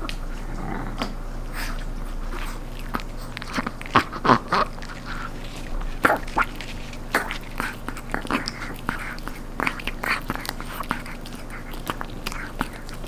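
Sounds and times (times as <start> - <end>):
dog crunching and gnawing a treat: 0.0 - 13.0.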